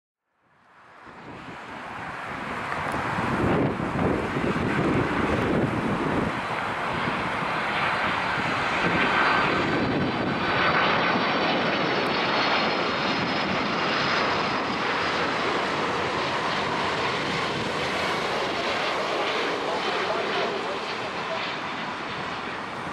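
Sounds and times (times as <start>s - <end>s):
jet airliner flying past: 0.6s - 22.9s.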